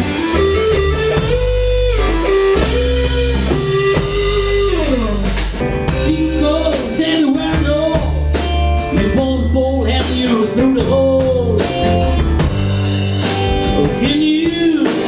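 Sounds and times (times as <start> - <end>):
blues-rock band playing: 0.0 - 15.0
lead guitar bends and slide: 0.0 - 15.0.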